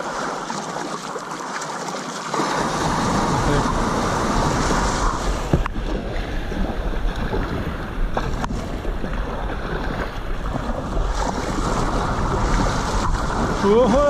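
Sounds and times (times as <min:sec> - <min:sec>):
water noise: 0:00.0 - 0:14.0
wind buffeting microphone: 0:02.6 - 0:14.0.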